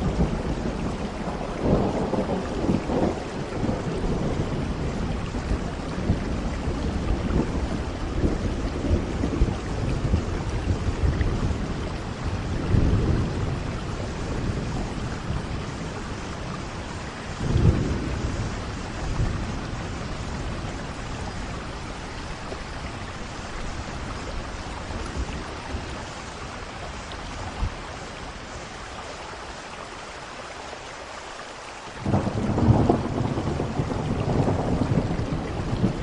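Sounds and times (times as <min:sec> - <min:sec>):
thunder rumbling: 0:00.0 - 0:28.6, 0:32.0 - 0:36.0
steady rain falling: 0:00.0 - 0:36.0.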